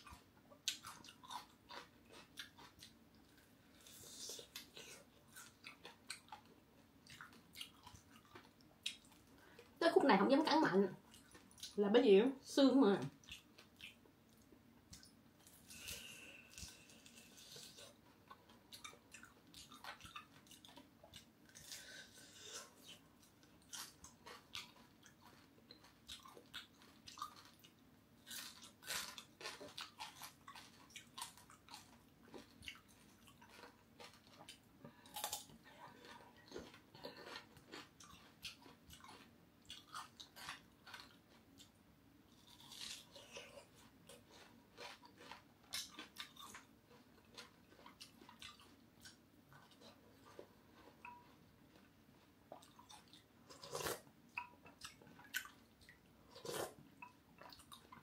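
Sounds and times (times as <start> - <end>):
chewing and crunching: 0.0 - 9.8, 11.0 - 11.8, 13.1 - 58.0.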